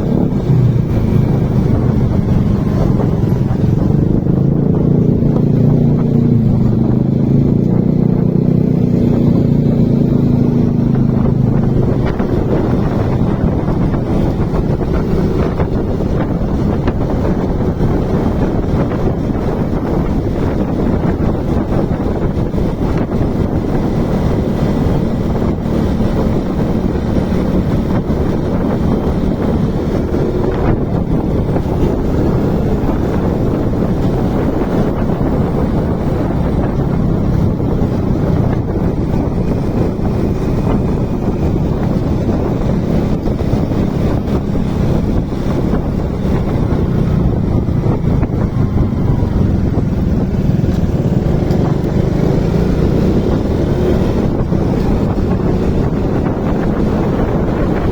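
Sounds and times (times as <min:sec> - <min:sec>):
motorcycle engine running: 0:00.0 - 0:57.9
wind buffeting microphone: 0:00.0 - 0:57.9.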